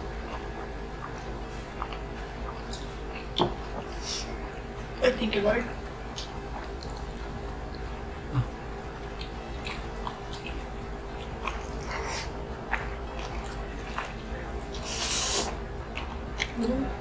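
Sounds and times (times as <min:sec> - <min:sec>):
chewing with mouth clicks: 0:00.1 - 0:05.0, 0:06.0 - 0:16.8.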